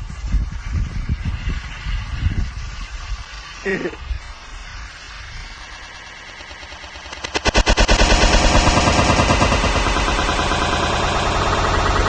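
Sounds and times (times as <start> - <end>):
boiling coolant and steam sputtering: 0.0 - 12.0.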